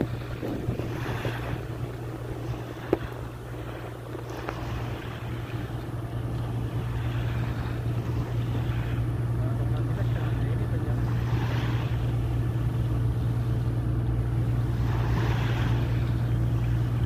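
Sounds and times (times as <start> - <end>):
low hum of ship engines: 0.0 - 17.0.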